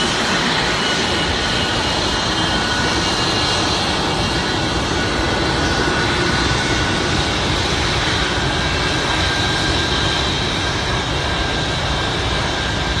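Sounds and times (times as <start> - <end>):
airplane engine drone: 0.0 - 13.0.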